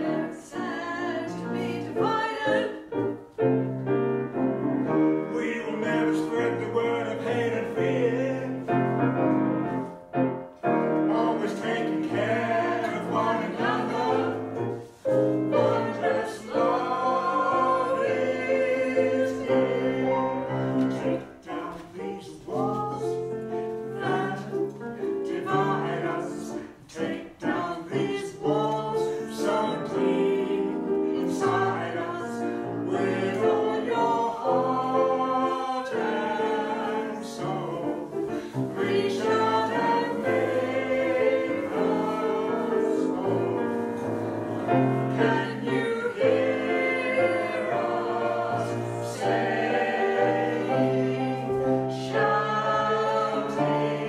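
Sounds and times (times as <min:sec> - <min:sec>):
grand piano: 0:00.0 - 0:54.0
vocal quartet singing gospel: 0:00.0 - 0:54.0.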